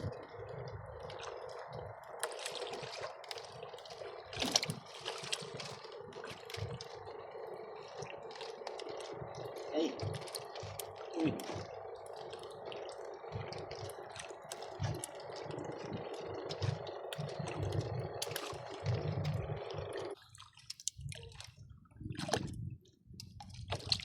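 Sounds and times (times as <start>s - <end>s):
water splashing and dripping: 0.6s - 22.6s, 23.2s - 24.0s.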